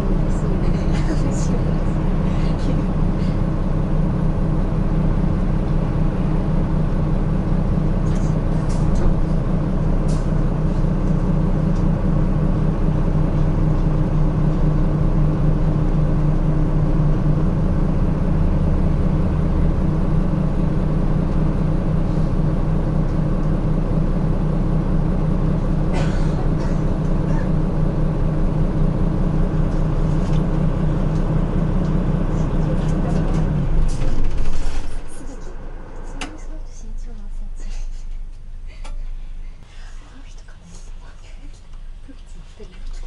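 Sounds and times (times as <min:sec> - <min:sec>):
bus engine hum and road noise: 0:00.0 - 0:43.0.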